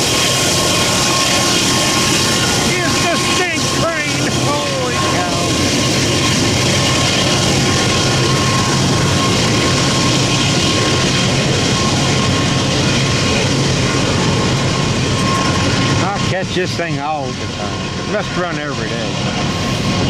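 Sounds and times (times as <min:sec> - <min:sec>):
freight train wheels rumbling: 0:00.0 - 0:20.0
thin steady whine: 0:00.0 - 0:20.0.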